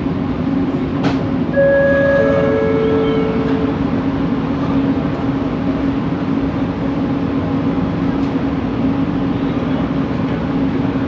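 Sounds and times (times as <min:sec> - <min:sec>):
train motor hum: 0:00.0 - 0:11.0
train rolling noise: 0:00.0 - 0:11.0.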